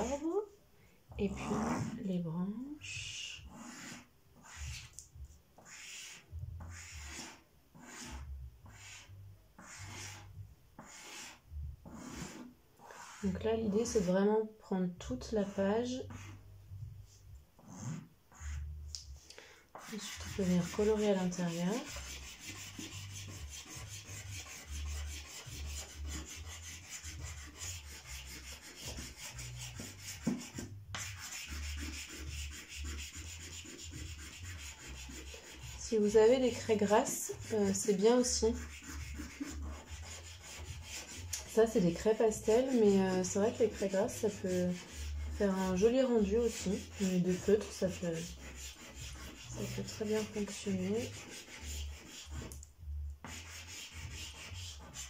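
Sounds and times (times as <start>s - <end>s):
chalk pastel scraping paper: 2.8s - 14.2s, 15.1s - 16.4s, 17.1s - 52.6s, 53.2s - 55.0s.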